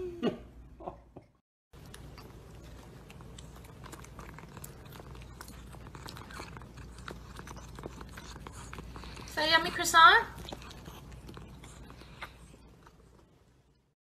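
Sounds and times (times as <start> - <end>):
cat chewing crisp pastry: 1.8 - 13.6.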